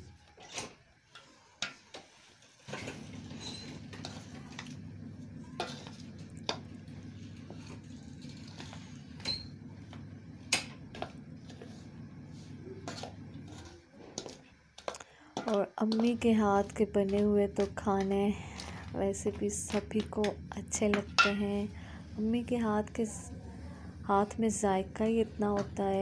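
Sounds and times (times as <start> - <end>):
steady low hum: 2.7 - 26.0.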